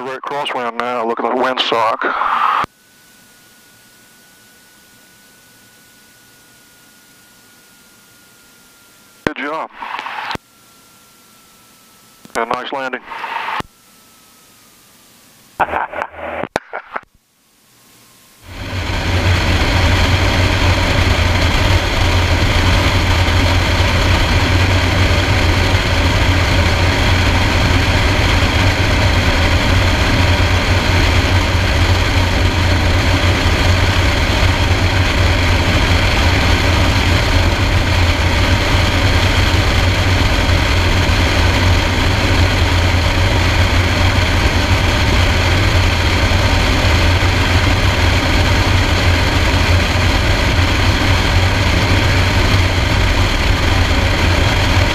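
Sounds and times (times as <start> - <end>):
propeller plane engine drone: 0.0 - 17.0, 17.8 - 54.9.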